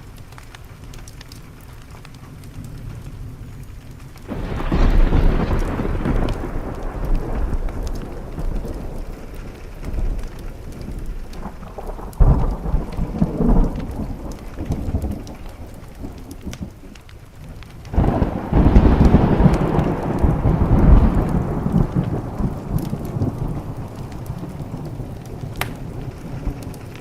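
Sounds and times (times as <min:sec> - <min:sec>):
rain on a window: 0:00.0 - 0:27.0
thunder rumbling: 0:00.0 - 0:27.0.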